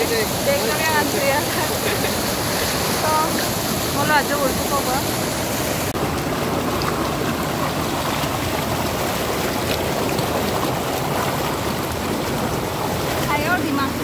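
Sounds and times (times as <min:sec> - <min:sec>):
river rushing over stones: 0:00.0 - 0:14.0.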